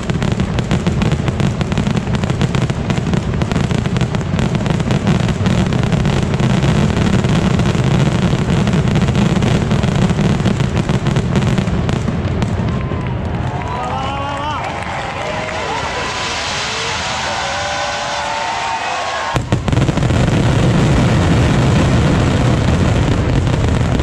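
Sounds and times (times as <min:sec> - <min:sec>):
firework barrage crackle: 0:00.0 - 0:24.0.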